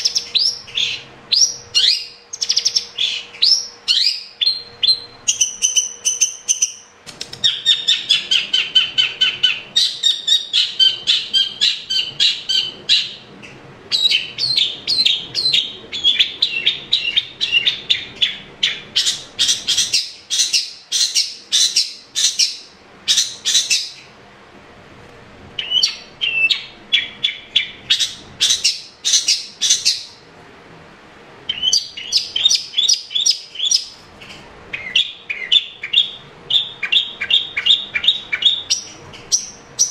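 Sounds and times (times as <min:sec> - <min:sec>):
bird chattering song: 0:00.0 - 0:24.1, 0:25.6 - 0:30.3, 0:31.5 - 0:39.9.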